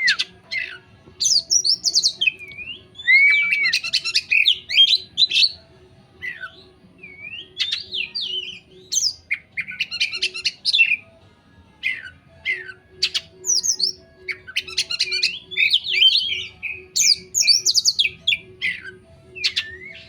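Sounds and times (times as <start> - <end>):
songbird singing whistled trills: 0.0 - 11.1, 11.8 - 20.0.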